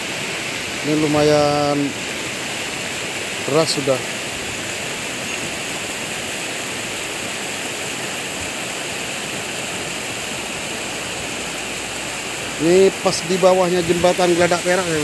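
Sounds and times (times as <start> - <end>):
floodwater rushing down river bed: 0.0 - 15.0.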